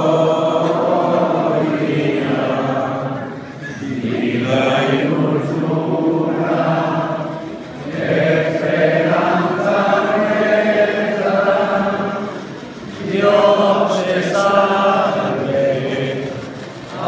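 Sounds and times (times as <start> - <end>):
crowd singing a hymn: 0.0 - 17.0.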